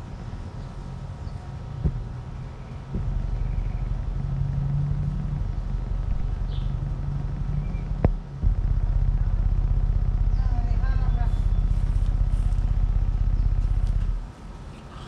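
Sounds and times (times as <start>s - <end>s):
buzzy bass tones from speaker: 1.6s - 14.3s.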